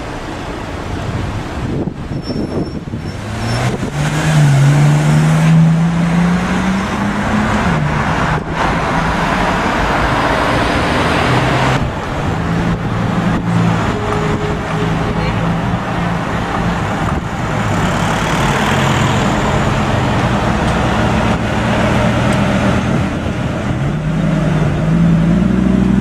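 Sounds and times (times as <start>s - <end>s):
tyre and road noise: 0.0s - 26.0s
car engine accelerating: 2.8s - 26.0s.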